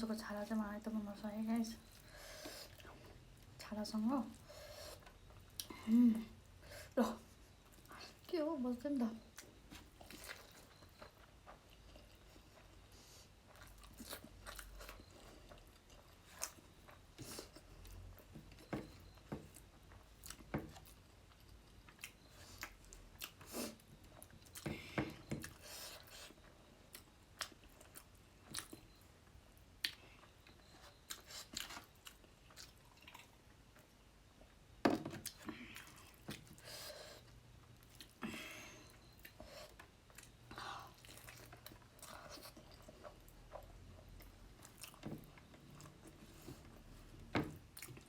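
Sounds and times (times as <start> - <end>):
person chewing food: 9.3 - 48.0.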